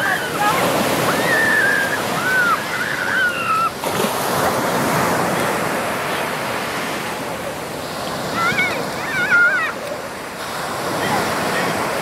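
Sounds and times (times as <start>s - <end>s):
small waves washing up beach: 0.0s - 12.0s.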